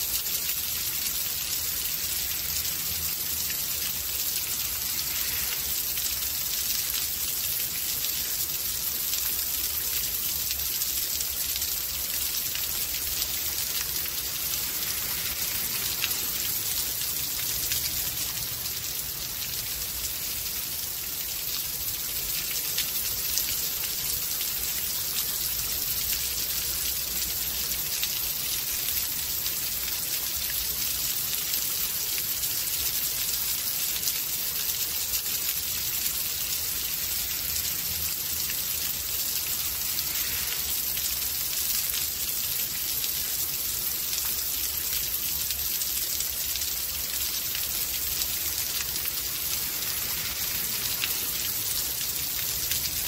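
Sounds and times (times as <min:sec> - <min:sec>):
rain hissing: 0:00.0 - 0:53.0.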